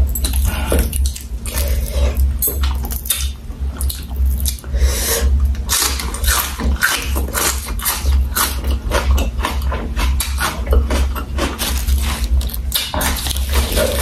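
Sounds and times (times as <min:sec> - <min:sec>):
wet chewing and lip-smacking: 0:00.1 - 0:04.7, 0:05.5 - 0:14.0.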